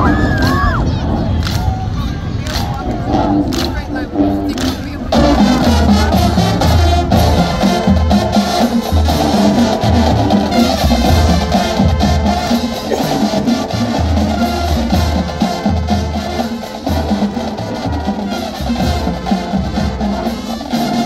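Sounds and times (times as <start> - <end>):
brass band playing: 0.0 - 21.0
snare and bass drumline: 2.5 - 21.0.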